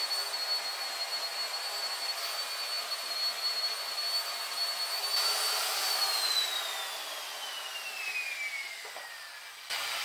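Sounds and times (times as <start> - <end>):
power scraper motor whining: 0.0 - 10.0.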